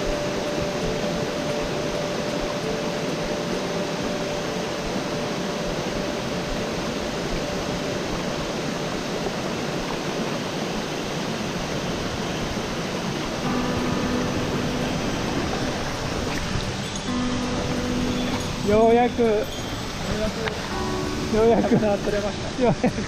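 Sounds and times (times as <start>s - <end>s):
background music: 0.0s - 9.3s, 13.3s - 23.0s
mountain stream rushing: 0.0s - 23.0s.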